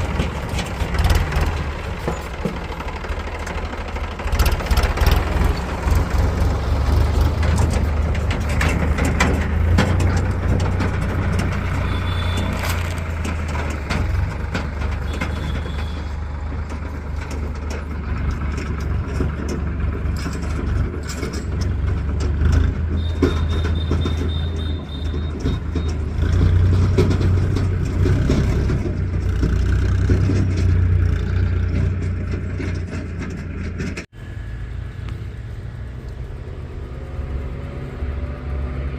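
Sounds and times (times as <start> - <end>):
knocks and clanks: 0.0 - 34.1
diesel engine running under load: 0.0 - 38.9.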